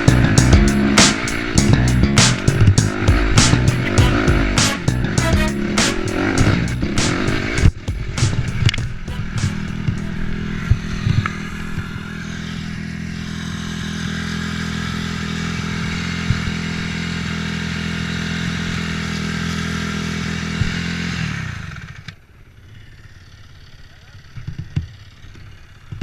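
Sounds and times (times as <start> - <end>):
dirt bike engine running: 0.0 - 21.9.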